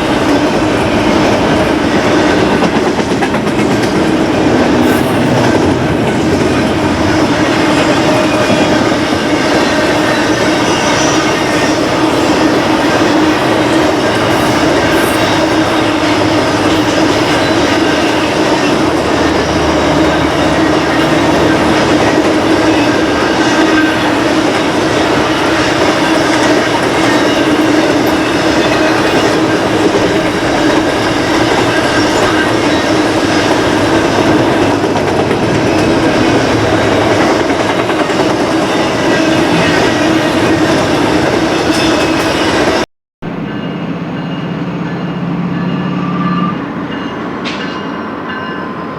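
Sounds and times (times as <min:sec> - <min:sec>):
freight train wheels roaring: 0:00.0 - 0:48.9.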